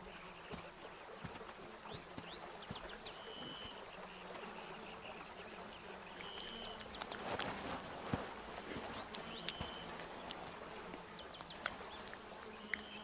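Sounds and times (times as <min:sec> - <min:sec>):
flies buzzing: 0:00.0 - 0:13.0.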